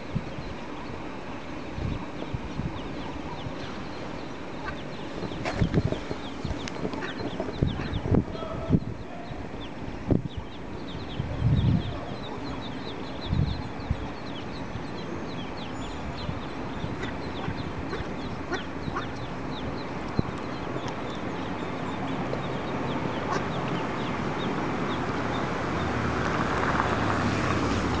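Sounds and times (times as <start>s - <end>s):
ducklings peeping: 0.2s - 25.9s.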